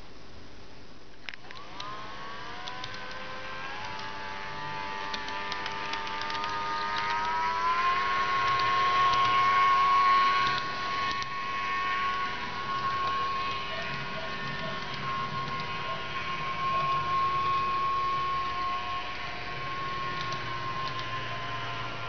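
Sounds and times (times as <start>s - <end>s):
model tram electric motor whining: 1.3s - 22.0s.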